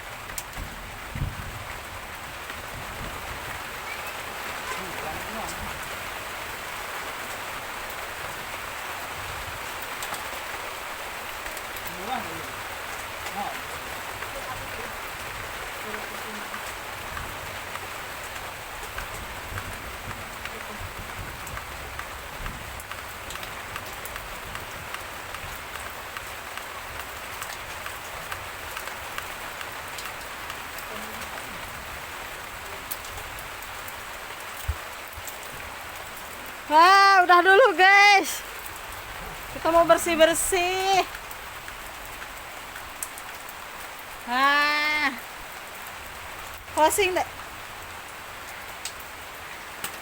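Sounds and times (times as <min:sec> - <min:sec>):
raindrop ticks: 0:00.0 - 0:50.0
steady rain falling: 0:00.0 - 0:50.0.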